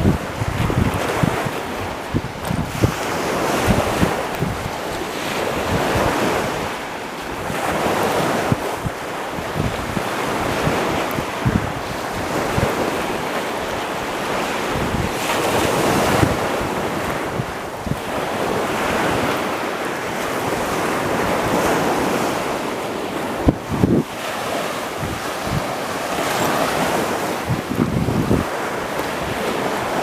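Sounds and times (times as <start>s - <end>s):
surf washing onto beach: 0.0s - 30.0s
wind buffeting microphone: 0.0s - 30.0s.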